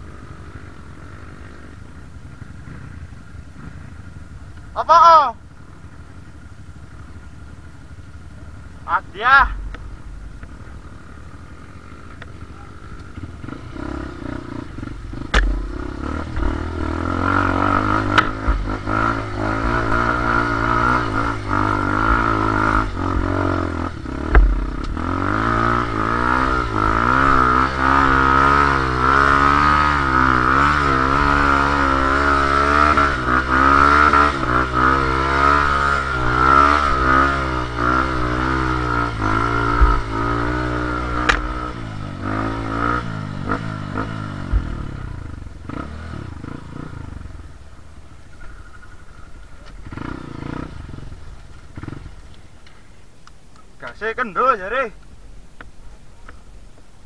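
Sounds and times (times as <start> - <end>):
dirt bike engine revving: 0.0 - 52.8.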